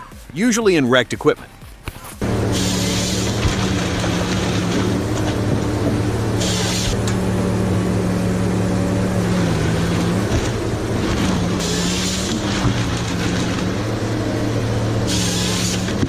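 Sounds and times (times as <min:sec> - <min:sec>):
short hiss: 0:01.9 - 0:15.9
diesel engine running: 0:02.2 - 0:16.0.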